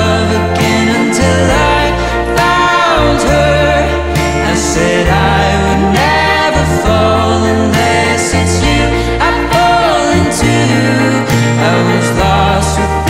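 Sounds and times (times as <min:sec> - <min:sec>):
slow song with gliding melody: 0:00.0 - 0:13.0.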